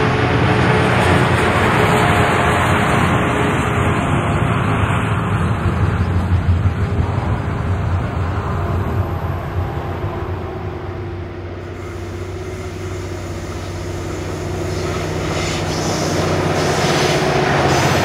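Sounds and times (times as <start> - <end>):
diesel locomotive engine drone: 0.0 - 18.0
train wheels on rails: 0.0 - 18.0.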